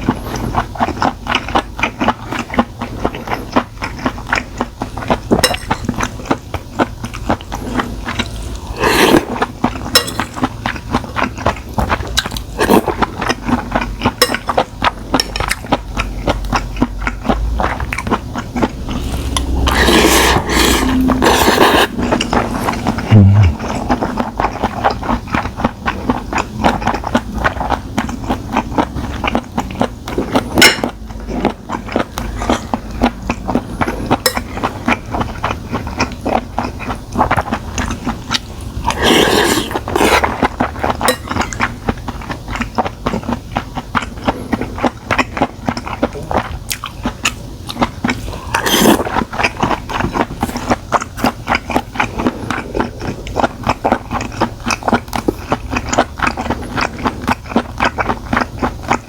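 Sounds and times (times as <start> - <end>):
person chewing with wet mouth clicks: 10.6 - 35.2, 36.0 - 59.0.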